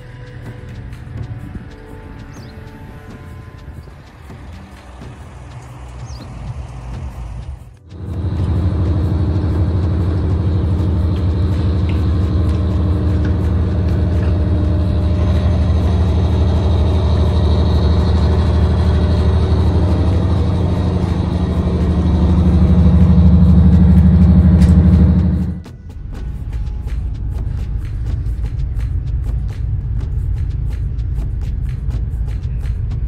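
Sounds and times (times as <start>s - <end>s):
ship engines rumbling: 0.0s - 33.0s.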